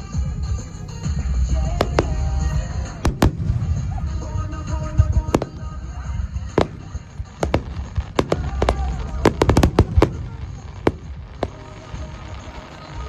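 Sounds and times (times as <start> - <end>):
fireworks bangs: 0.0 - 13.0
low rumble: 0.2 - 12.7.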